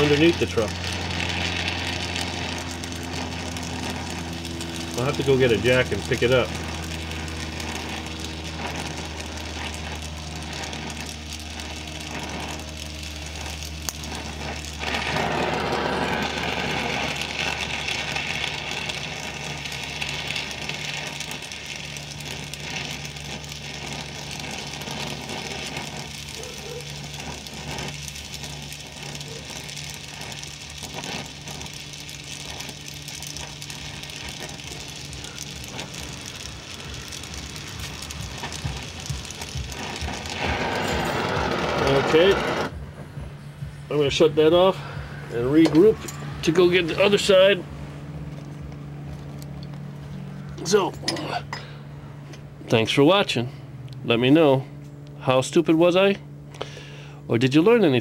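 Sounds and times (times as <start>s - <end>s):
hissing crackling noise: 0.0s - 50.9s
low machine hum: 0.0s - 58.0s.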